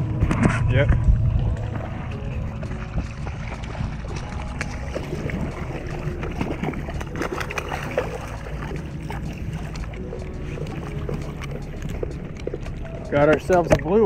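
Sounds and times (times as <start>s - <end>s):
wind buffeting microphone: 0.0s - 14.0s
fish splashing in water: 1.6s - 14.0s.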